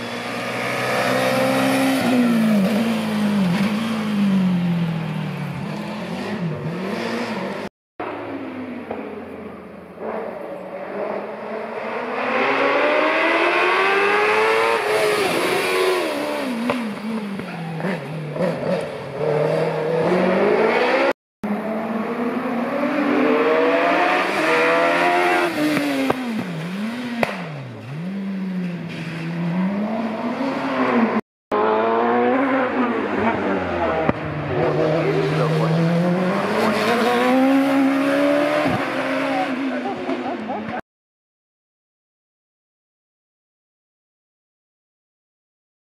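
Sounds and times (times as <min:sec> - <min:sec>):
racing car engines revving: 0:00.0 - 0:40.8.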